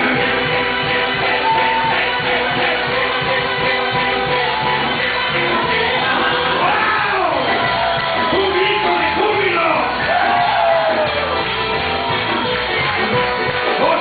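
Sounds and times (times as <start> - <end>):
band playing praise music: 0.0 - 14.0
many voices singing: 0.0 - 14.0.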